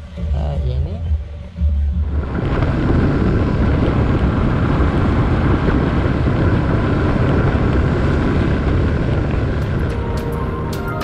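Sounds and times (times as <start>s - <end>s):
wind rumble on microphone: 0.0s - 11.0s
motorcycle engine running: 1.9s - 11.0s.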